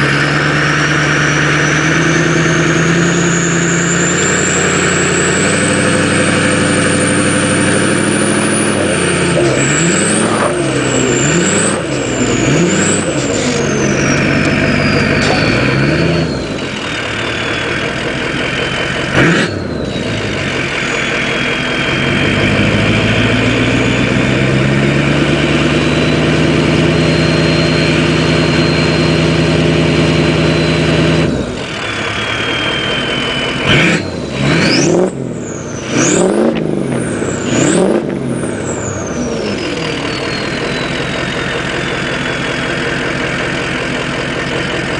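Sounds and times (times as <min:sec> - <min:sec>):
diesel engine revving: 0:00.0 - 0:44.9
turbocharger whistle: 0:00.0 - 0:44.9.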